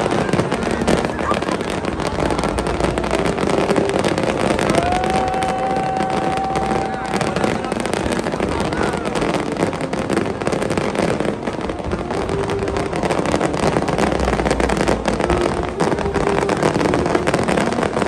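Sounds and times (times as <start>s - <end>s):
deep fireworks rumble: 0.0s - 18.0s
fireworks crackling: 0.0s - 18.0s.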